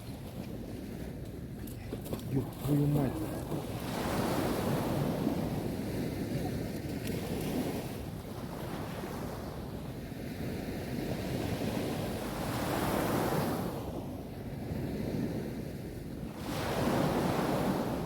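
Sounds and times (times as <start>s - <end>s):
sea waves washing up a beach: 1.8s - 18.0s.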